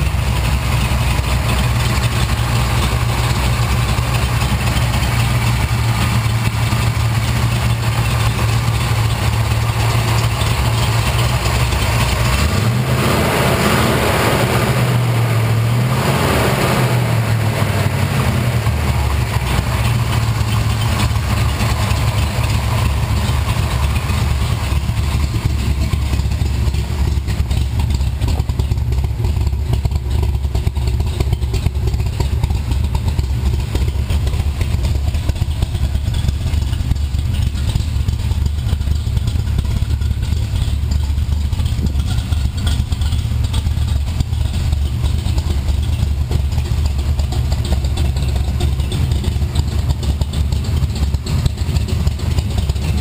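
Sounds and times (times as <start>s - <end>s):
lumpy engine idle: 0.0s - 53.0s.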